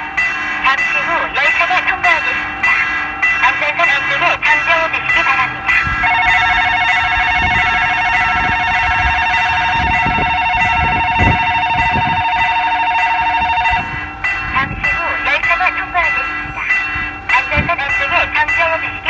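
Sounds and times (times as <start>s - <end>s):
crossing bell two-tone ding: 0.0s - 19.0s.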